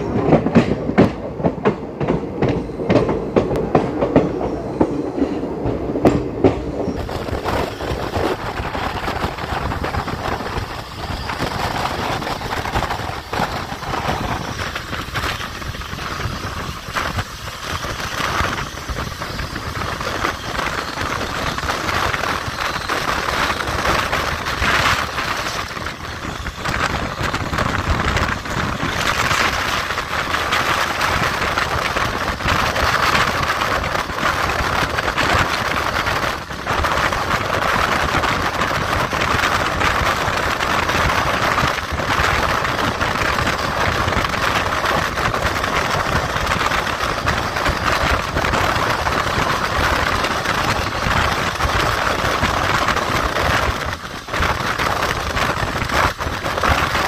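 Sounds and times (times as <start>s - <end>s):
train rushing rumble: 0.0s - 57.0s
train wheels clattering over rail joints: 0.0s - 57.0s.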